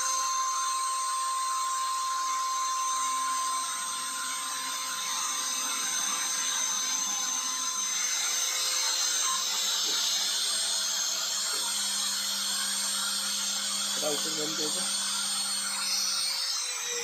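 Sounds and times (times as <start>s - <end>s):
router whining cutting foam: 0.0s - 17.0s.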